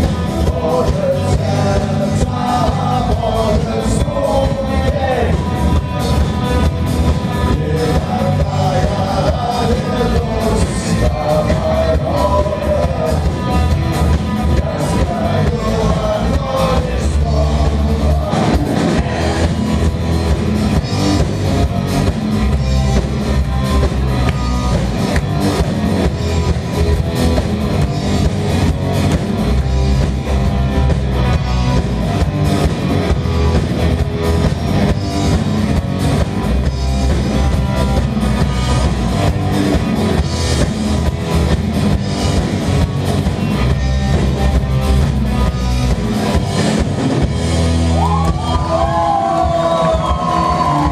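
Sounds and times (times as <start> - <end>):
drum kit beat: 0.0 - 50.9
electric guitars: 0.0 - 50.9
live rock band playing: 0.0 - 50.9.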